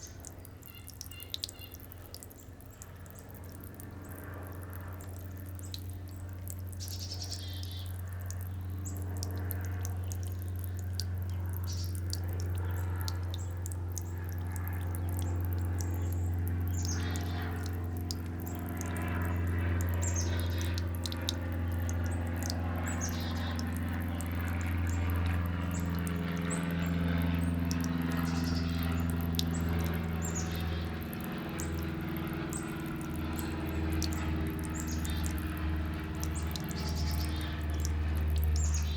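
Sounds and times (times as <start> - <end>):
fountain water trickling: 0.0 - 38.9
small birds chirping: 0.0 - 38.9
steady low hum: 0.0 - 38.9.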